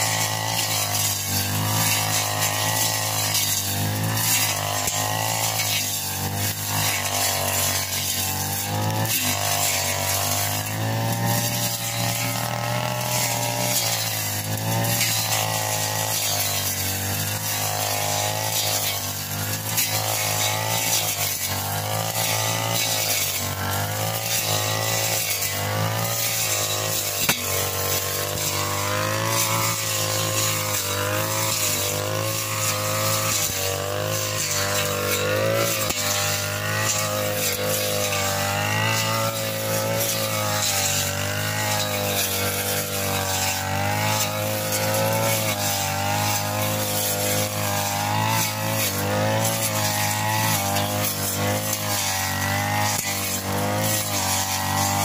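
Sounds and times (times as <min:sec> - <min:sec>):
brush cutter engine running: 0:00.0 - 0:55.0.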